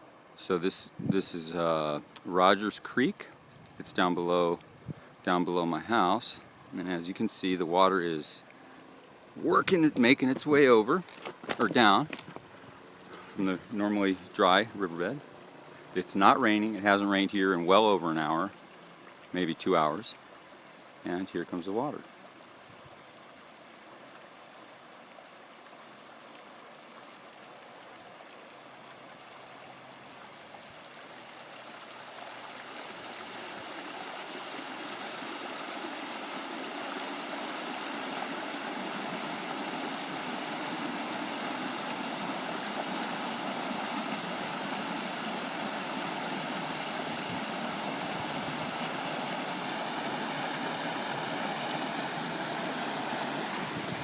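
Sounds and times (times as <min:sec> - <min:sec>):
flood water rushing: 0:00.0 - 0:54.0.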